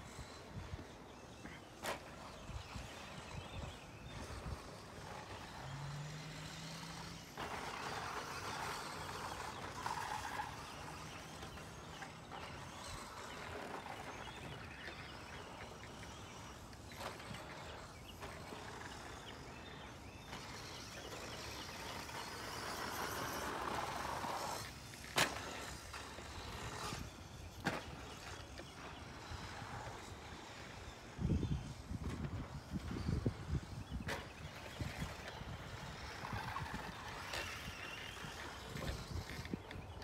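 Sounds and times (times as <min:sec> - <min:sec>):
rc truck motor and tyres: 0:00.0 - 0:40.0.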